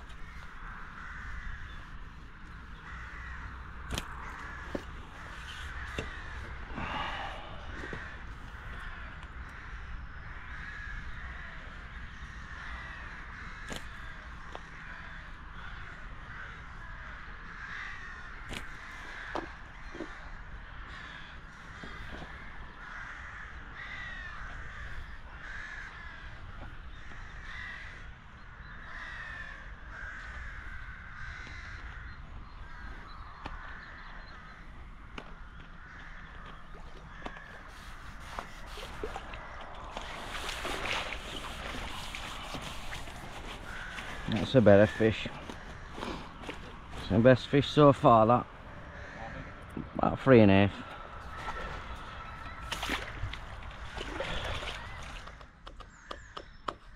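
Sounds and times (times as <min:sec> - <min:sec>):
wind rumbling on microphone: 0:00.0 - 0:47.8, 0:48.4 - 0:56.6
birds calling: 0:00.0 - 0:56.9.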